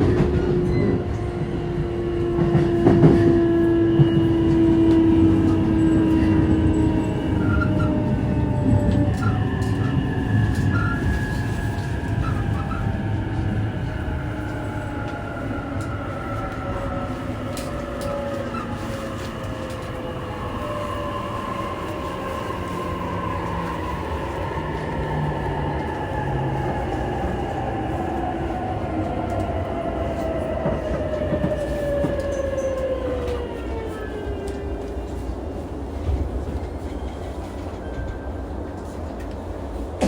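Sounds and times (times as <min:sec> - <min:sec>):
train wheel rumble: 0:00.0 - 0:40.0.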